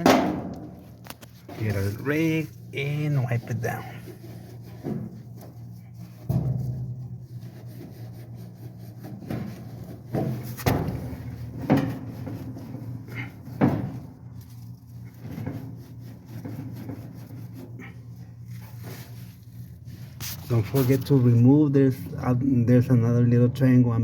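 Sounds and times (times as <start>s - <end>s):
rag rubbing: 0.0s - 21.4s
steady low hum: 0.0s - 24.0s.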